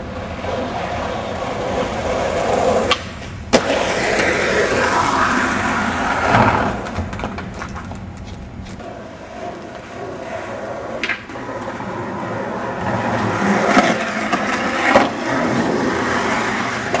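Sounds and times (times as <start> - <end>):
skateboard wheels rolling on pavement: 0.0 - 17.0
skateboard clacks: 0.2 - 17.0.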